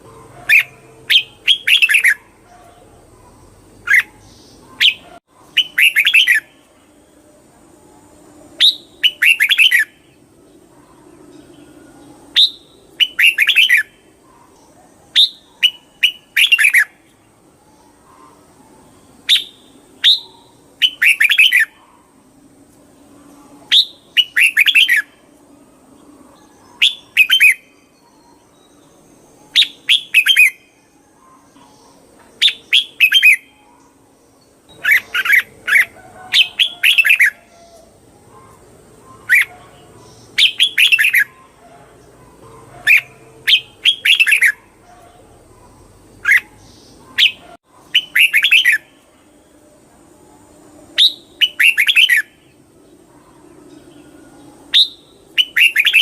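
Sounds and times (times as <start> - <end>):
bird singing warbled phrases: 0.0 - 56.0.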